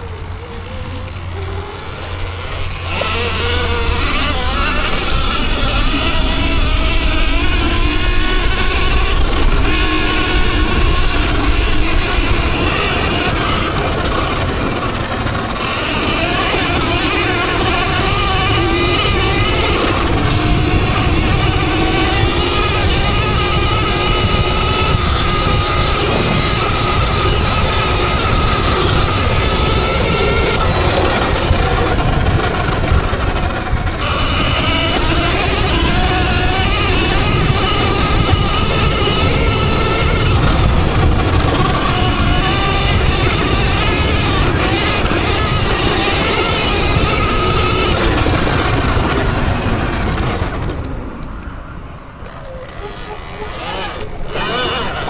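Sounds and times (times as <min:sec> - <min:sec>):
ground rumble: 0:00.0 - 0:52.4
electric motor whine: 0:00.0 - 0:55.0
heavy wind: 0:00.0 - 0:55.0.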